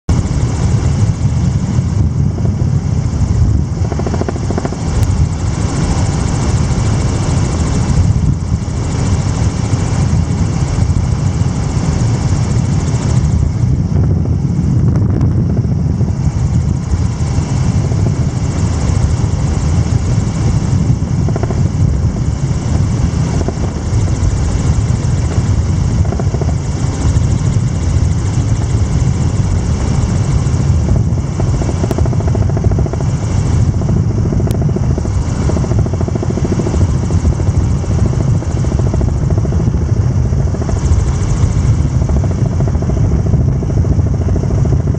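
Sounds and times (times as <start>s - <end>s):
helicopter rotor and engine: 0.1s - 44.9s.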